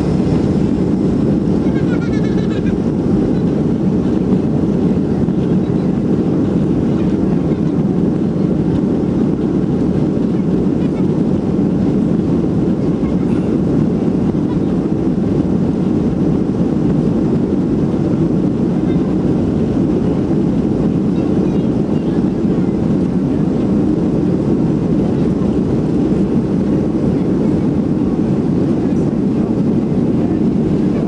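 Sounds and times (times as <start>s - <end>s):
airplane engines rumbling: 0.0s - 31.0s.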